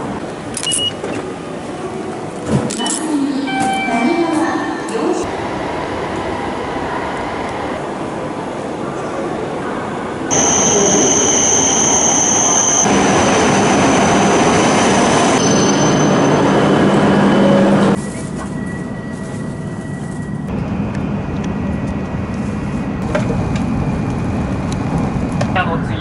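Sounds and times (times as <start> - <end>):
train cabin running noise: 0.0 - 26.0
train rushing with high whine: 1.2 - 26.0.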